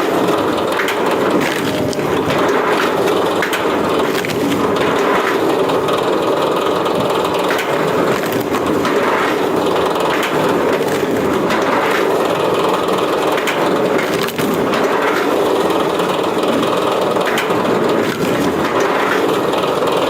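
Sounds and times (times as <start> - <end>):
wood cracking and splintering: 0.0 - 20.0
wood-processing machine running: 0.0 - 20.0.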